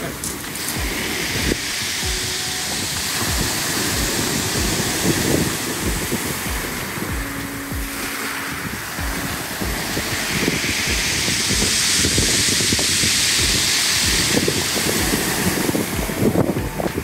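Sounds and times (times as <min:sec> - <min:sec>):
waves hissing over shingle: 0:00.0 - 0:17.0
wind buffeting microphone: 0:00.0 - 0:17.0.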